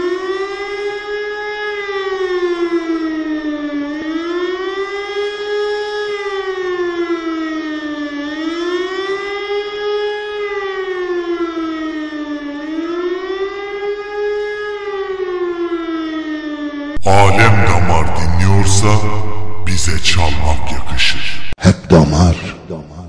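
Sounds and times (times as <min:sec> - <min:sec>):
siren wailing: 0:00.0 - 0:21.6.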